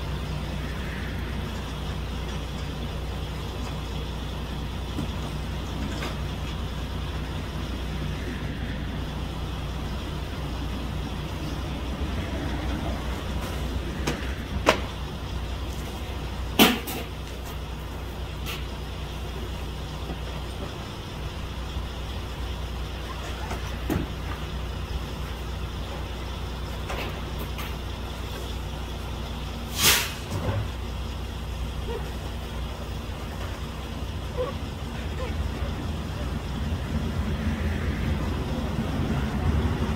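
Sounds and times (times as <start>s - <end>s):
low vehicle rumble: 0.0s - 39.9s.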